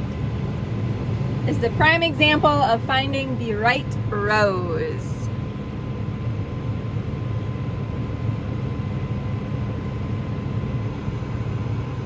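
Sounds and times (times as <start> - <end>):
faint steady whine: 0.0 - 12.0
farm machinery engine drone: 0.0 - 12.0.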